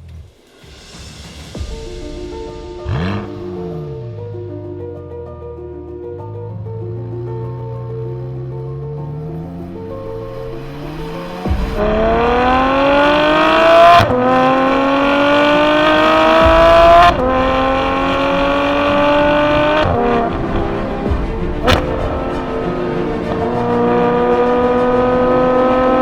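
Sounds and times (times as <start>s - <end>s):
sports car engine accelerating: 2.8s - 4.8s, 6.2s - 26.0s.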